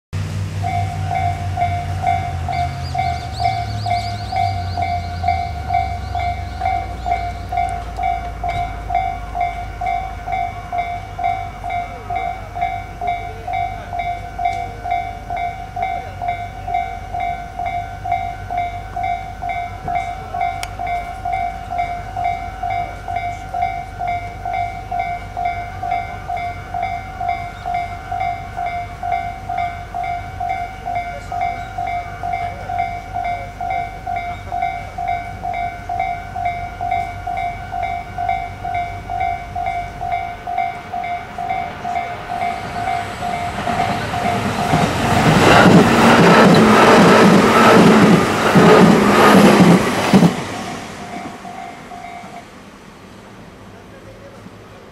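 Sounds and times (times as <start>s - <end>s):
electric train approaching: 0.2s - 54.9s
railway crossing warning bell: 0.2s - 54.9s.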